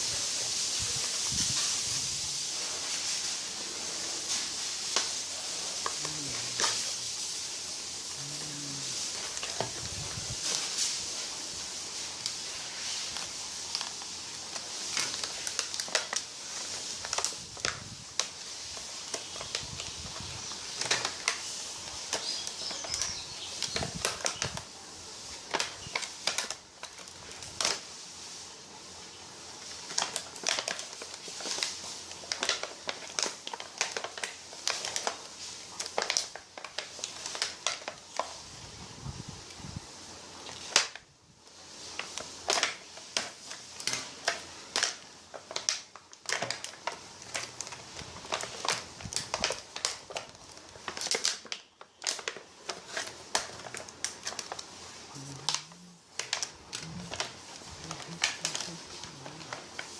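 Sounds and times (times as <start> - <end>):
packaging crinkling: 0.0 - 38.7, 39.3 - 59.9.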